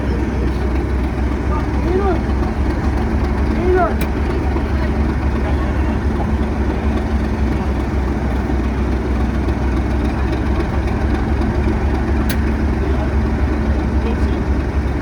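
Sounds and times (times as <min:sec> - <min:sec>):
diesel locomotive engine idling: 0:00.0 - 0:15.0.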